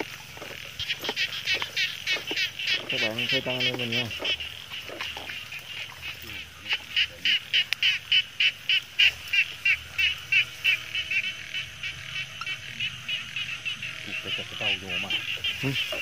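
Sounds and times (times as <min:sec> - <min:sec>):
chorus of frogs and insects: 0:00.0 - 0:16.0
frog calling short notes: 0:00.8 - 0:16.0.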